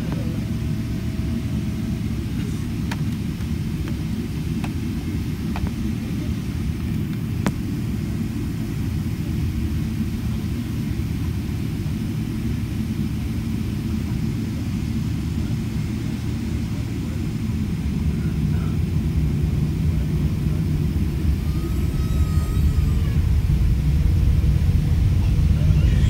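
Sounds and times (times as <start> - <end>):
airliner engine rumble in cabin: 0.0 - 26.0.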